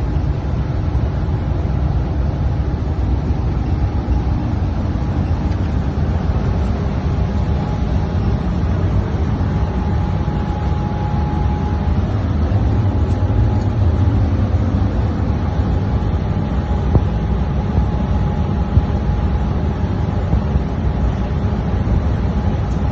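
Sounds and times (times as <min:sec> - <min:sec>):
refrigeration machinery rumbling: 0:00.0 - 0:22.9
faint thin whine: 0:02.5 - 0:22.9.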